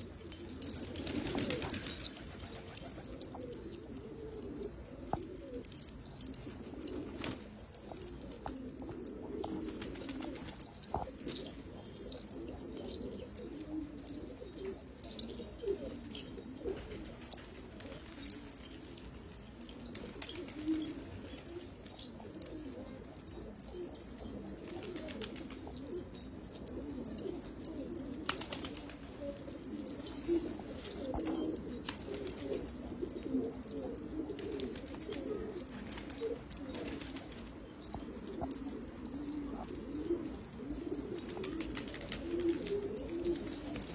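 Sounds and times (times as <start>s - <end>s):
pigeons cooing: 0.0s - 43.9s
small birds chirping: 0.0s - 43.9s.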